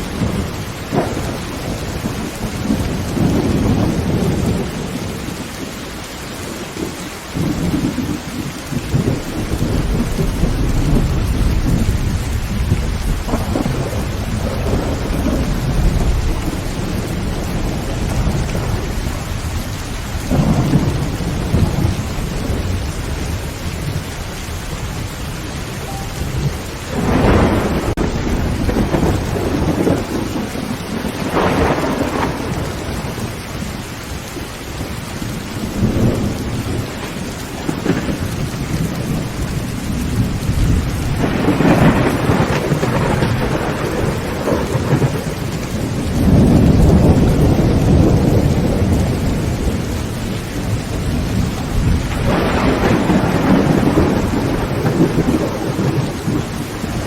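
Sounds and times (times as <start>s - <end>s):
heavy rain on a tin roof: 0.0s - 57.0s
thunder rumbling: 0.0s - 57.0s.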